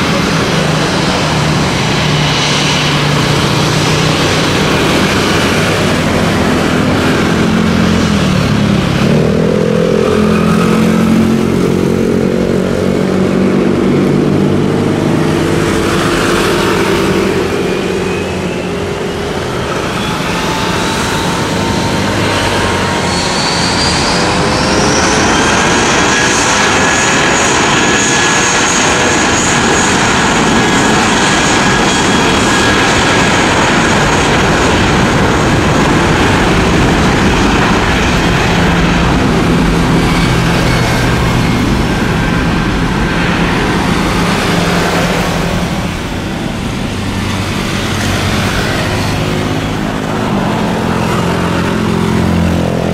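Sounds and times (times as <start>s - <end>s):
jet engine whine: 0.0s - 52.9s
jet engines roaring: 0.0s - 52.9s.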